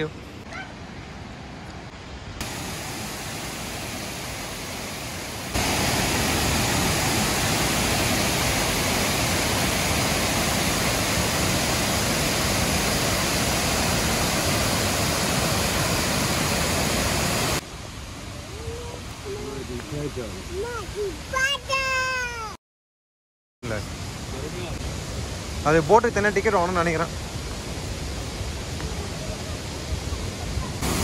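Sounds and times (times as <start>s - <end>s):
waterfall roaring: 0.0s - 22.6s, 23.7s - 31.0s.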